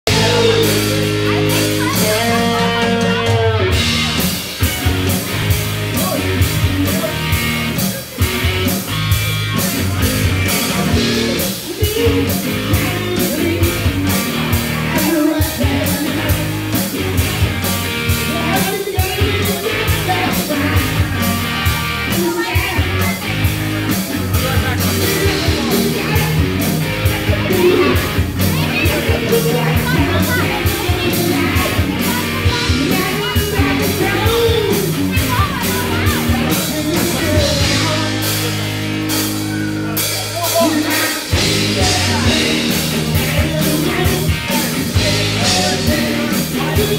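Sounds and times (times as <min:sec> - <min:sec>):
person singing: 0:00.0 - 0:04.5, 0:09.6 - 0:23.3, 0:24.0 - 0:46.9
bass guitar: 0:00.0 - 0:46.9
drum kit beat: 0:00.0 - 0:46.9
electric guitar: 0:00.0 - 0:46.9.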